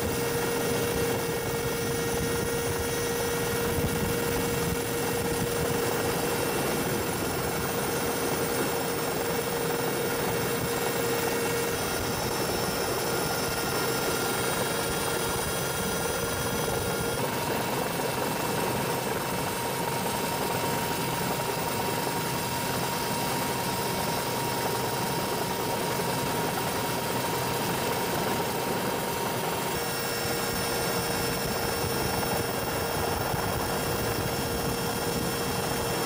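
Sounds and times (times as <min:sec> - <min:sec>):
helicopter engine and rotor: 0:00.0 - 0:36.0
steady whine: 0:00.0 - 0:36.0.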